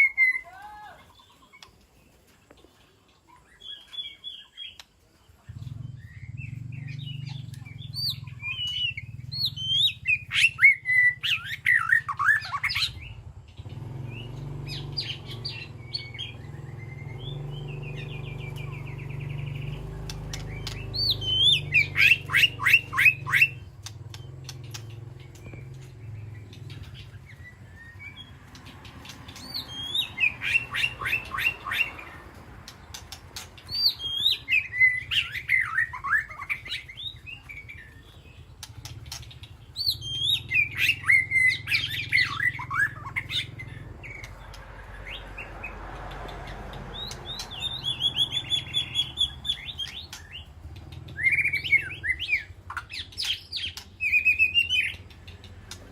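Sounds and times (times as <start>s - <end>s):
bird singing whistled notes and trills: 0.0s - 55.9s.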